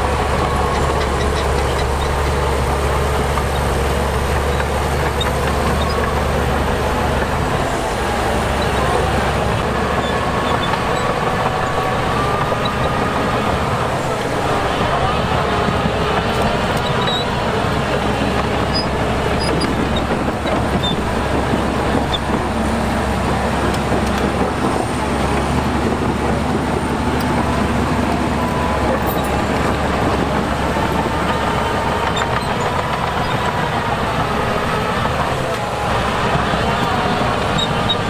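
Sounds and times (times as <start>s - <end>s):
heavy machinery diesel engines: 0.0s - 38.0s.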